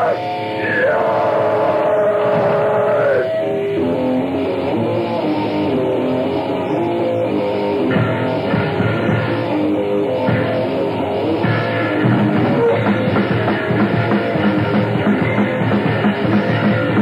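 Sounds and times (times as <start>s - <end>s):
electric guitar riff: 0.0s - 17.0s.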